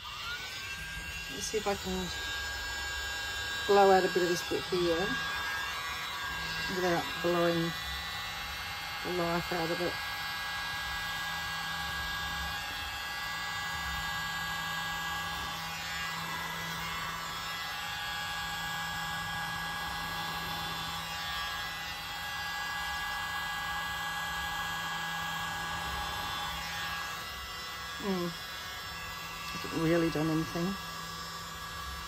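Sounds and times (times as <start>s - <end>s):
electric mini blower running: 0.0s - 32.0s.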